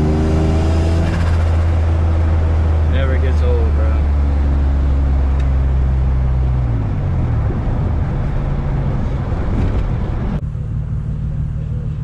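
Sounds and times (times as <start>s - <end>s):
car engine hum: 0.0s - 12.0s
road and wind noise: 0.0s - 12.0s.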